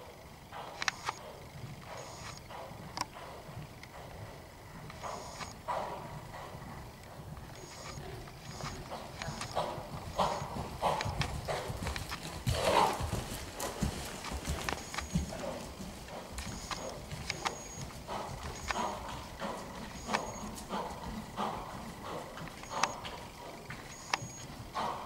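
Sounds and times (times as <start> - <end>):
dull hoofbeats on sand: 0.0 - 25.0
horse puffing: 0.0 - 25.0.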